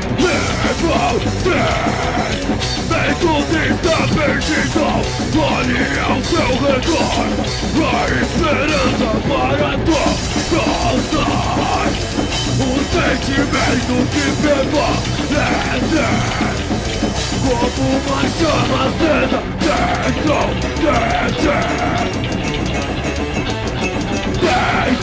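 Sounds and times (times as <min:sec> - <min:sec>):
screamed vocals: 0:00.0 - 0:22.2, 0:24.4 - 0:25.0
bass guitar: 0:00.0 - 0:25.0
distorted electric guitar: 0:00.0 - 0:25.0
drums with cymbals: 0:00.0 - 0:25.0.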